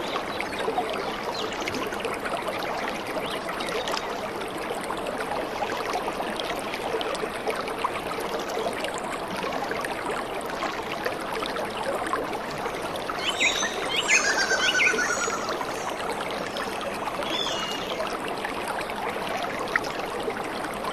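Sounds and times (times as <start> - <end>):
stream water rushing: 0.0 - 20.9.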